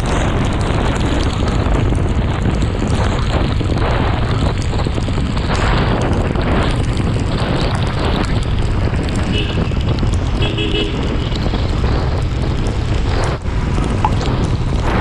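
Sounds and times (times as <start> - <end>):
motorcycle running: 0.0 - 15.0
tyre noise on wet road: 0.0 - 15.0
wind buffeting microphone: 0.0 - 15.0.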